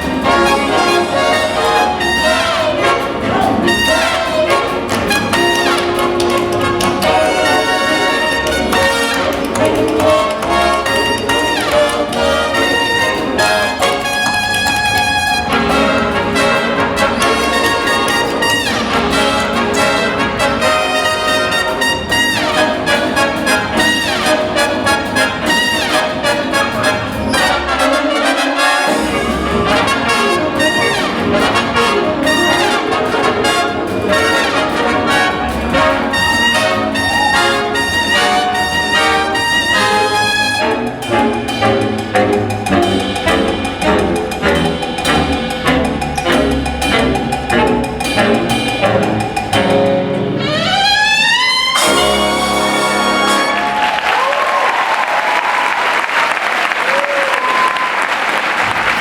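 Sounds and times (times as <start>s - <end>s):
jazz orchestra playing: 0.0s - 54.9s
trumpets and trombones: 0.0s - 55.8s.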